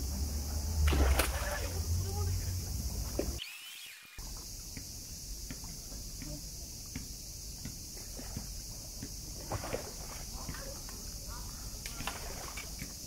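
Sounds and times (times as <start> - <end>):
steady high hiss: 0.0 - 13.0
water splashing and sloshing: 0.1 - 3.4, 4.2 - 13.0.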